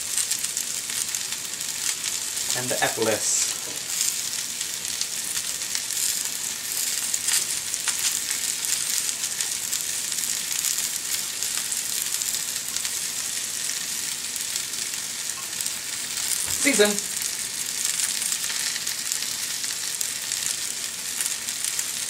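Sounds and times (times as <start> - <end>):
vegetables sizzling in a skillet: 0.0 - 22.0.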